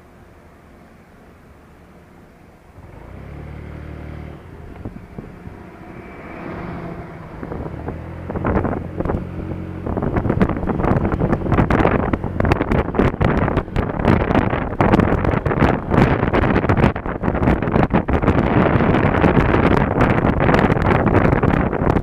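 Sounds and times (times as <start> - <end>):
scooter engine accelerating: 2.7 - 22.0
wind buffeting on microphone: 2.8 - 22.0.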